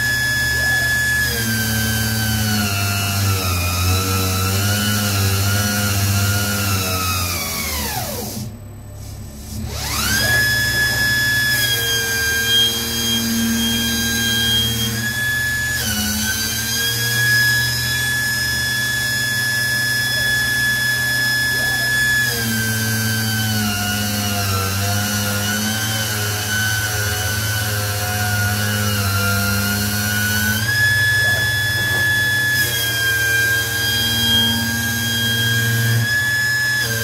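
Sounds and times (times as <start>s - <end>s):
belt grinder whining: 0.0s - 37.0s.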